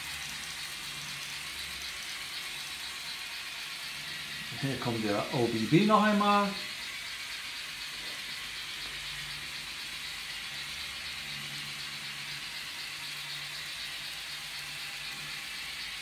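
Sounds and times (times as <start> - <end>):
model train wheels and motor rattling: 0.0 - 16.0.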